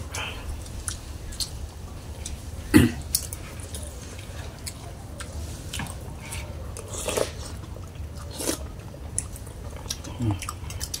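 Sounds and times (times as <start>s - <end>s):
people chewing and slurping: 0.0s - 11.0s.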